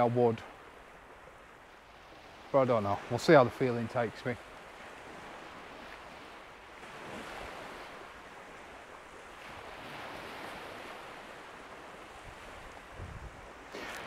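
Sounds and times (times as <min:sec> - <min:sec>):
small waves washing on beach: 0:00.0 - 0:14.0.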